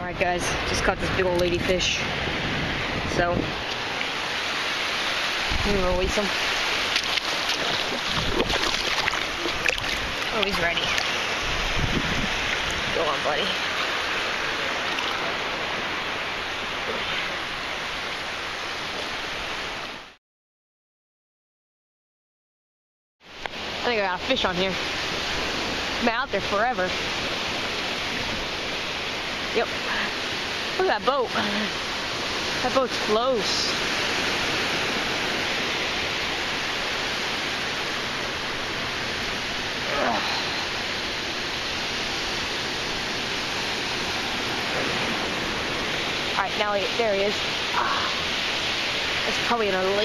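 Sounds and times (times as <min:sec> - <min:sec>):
surf washing at shoreline: 0:00.0 - 0:20.2, 0:23.2 - 0:50.0.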